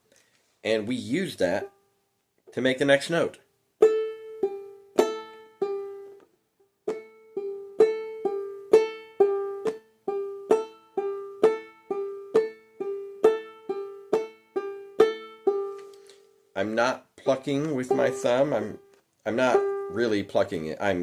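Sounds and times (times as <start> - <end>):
banjolele played clawhammer style: 2.5 - 21.0.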